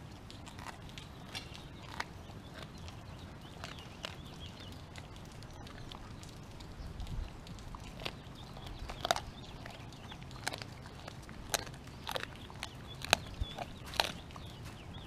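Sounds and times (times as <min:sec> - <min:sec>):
bone crunching: 0:00.0 - 0:15.0
dog chewing raw chicken: 0:00.0 - 0:15.0.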